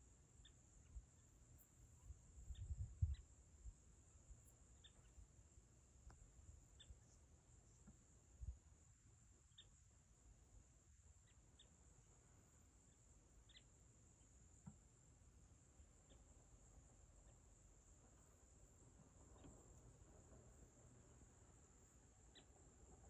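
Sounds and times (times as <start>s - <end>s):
crickets chirping chorus: 0.0s - 23.0s.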